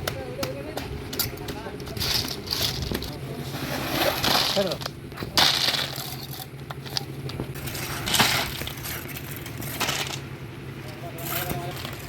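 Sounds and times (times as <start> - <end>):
engine hum: 0.0 - 12.0
tools scraping wet concrete: 0.4 - 12.0.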